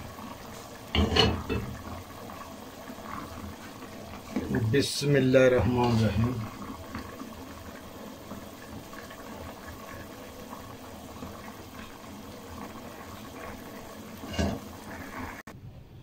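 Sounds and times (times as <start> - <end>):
curry bubbling in pot: 0.0 - 15.5.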